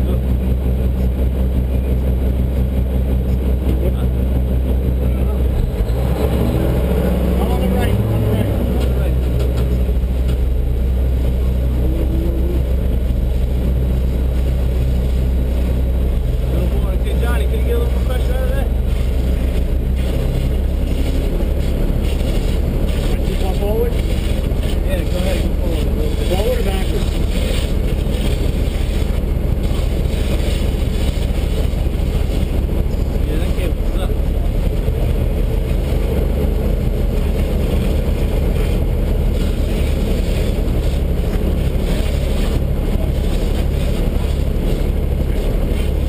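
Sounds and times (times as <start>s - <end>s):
truck engine rumbling: 0.0s - 46.0s.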